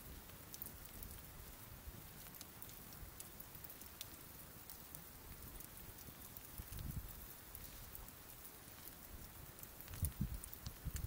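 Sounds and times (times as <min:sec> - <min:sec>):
embers crackling: 0:00.0 - 0:11.0
soft hiss: 0:00.0 - 0:11.0.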